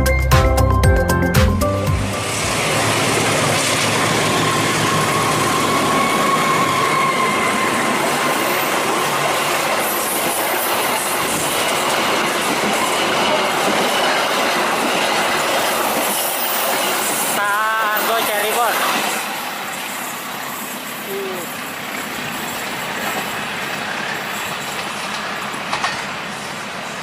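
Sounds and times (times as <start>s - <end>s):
train running on rails: 1.6s - 27.0s.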